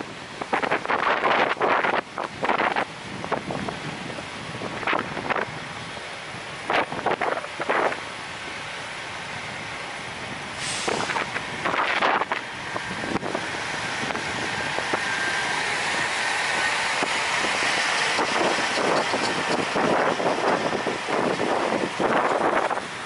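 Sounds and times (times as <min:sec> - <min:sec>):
rush of vehicle noise: 0:00.0 - 0:23.0
wind buffeting microphone: 0:00.1 - 0:23.0.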